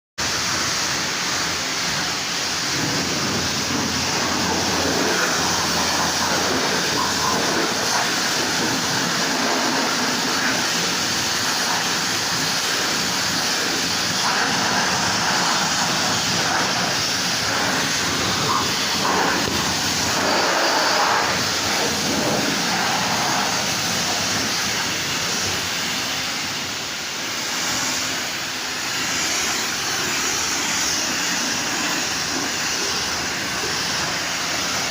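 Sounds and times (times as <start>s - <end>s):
car wash machine noise: 0.2s - 34.9s
spraying water: 0.2s - 34.9s.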